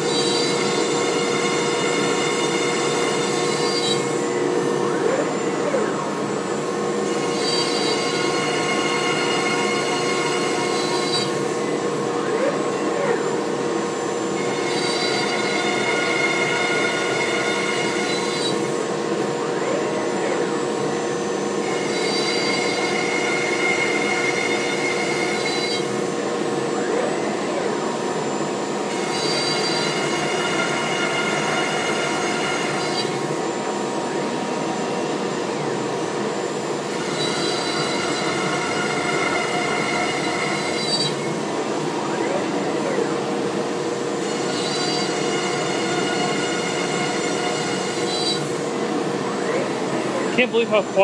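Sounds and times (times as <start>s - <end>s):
cnc router whirring: 0.0s - 51.0s
high cutting whine: 0.0s - 51.0s.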